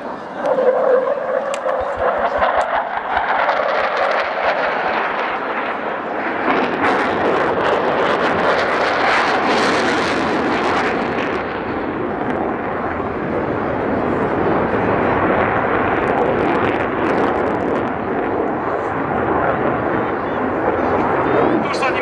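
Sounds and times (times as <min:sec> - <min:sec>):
fighter jets roaring: 0:00.0 - 0:22.0.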